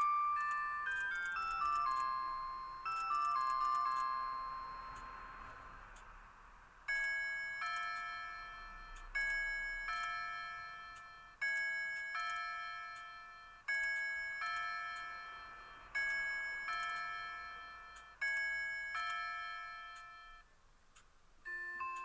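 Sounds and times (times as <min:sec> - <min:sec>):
clock melody note: 0:00.0 - 0:06.2, 0:06.8 - 0:20.5, 0:21.5 - 0:22.0
ding-dong clock chimes: 0:00.0 - 0:06.2, 0:06.8 - 0:20.5, 0:21.4 - 0:22.0.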